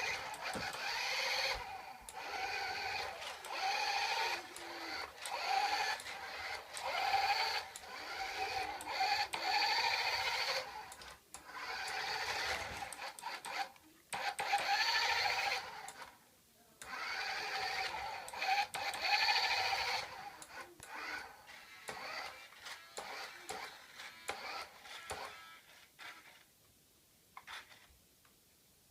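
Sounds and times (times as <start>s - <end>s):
toy car electric motor whining: 0.0s - 16.1s, 16.8s - 26.4s, 27.4s - 27.9s.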